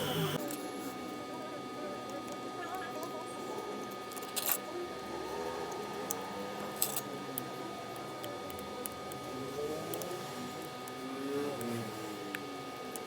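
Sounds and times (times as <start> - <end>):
faint background murmur: 0.0 - 13.0.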